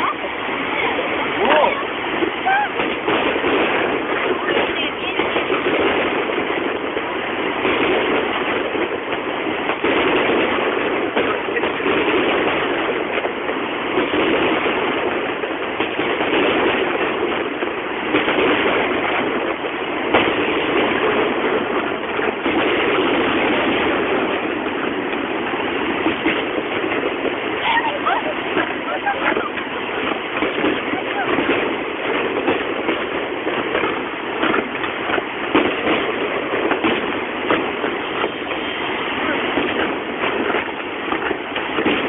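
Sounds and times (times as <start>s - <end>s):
fireworks bursting: 0.0s - 42.0s
steady rain: 0.0s - 42.0s.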